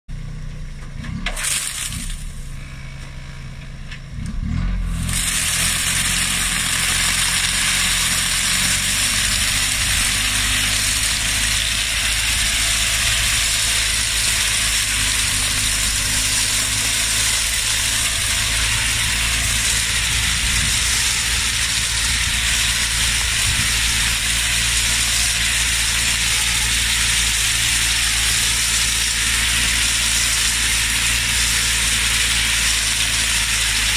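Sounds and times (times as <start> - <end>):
tractor engine running low: 0.1 - 33.9
machine stripping dry leaves: 1.0 - 2.7, 4.2 - 33.9.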